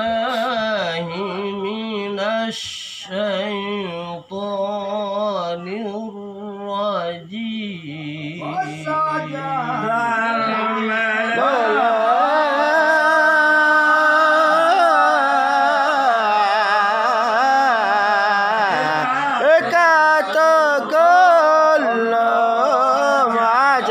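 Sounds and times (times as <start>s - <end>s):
man chanting recitation: 0.0s - 23.9s.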